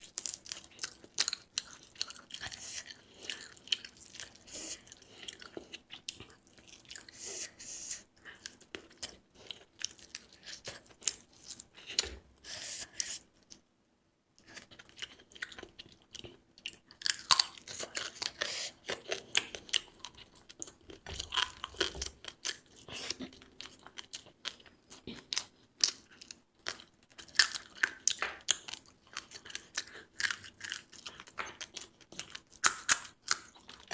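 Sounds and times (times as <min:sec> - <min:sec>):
person chewing and biting food: 0:00.0 - 0:13.3, 0:14.4 - 0:33.9.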